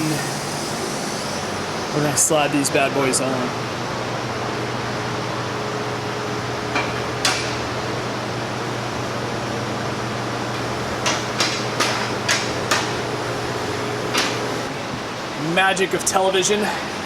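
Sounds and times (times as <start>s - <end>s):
fan-like hum: 0.0s - 17.0s.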